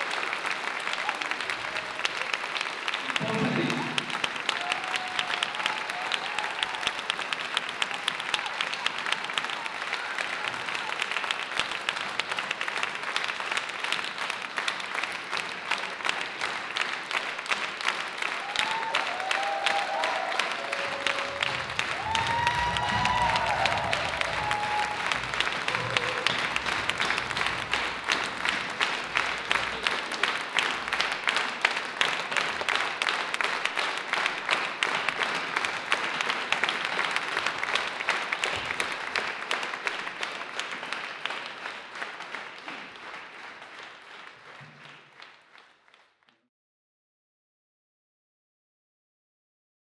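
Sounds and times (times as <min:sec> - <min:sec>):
audience clapping: 0:00.0 - 0:46.4.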